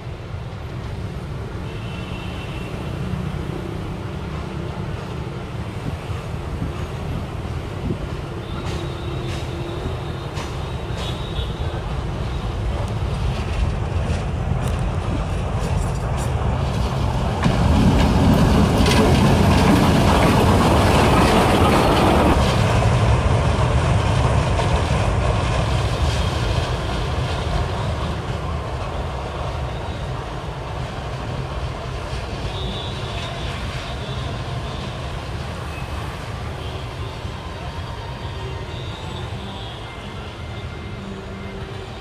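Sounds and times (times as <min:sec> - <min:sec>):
train rumbling along track: 0:00.0 - 0:42.0.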